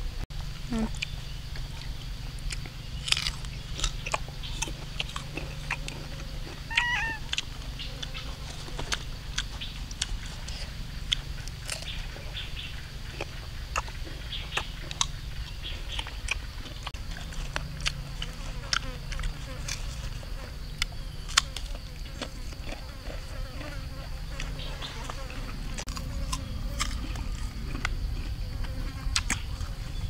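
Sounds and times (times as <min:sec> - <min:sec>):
biting and chewing crunches: 0:00.4 - 0:30.0.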